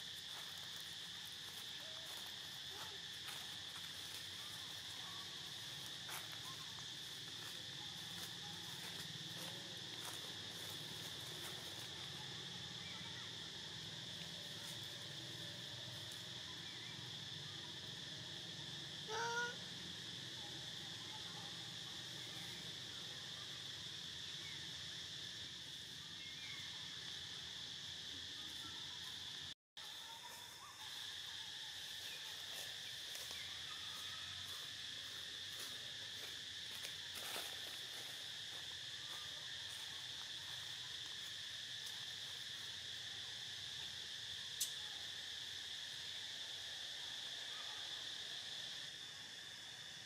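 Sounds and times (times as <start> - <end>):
insect chorus: 0.0 - 50.0.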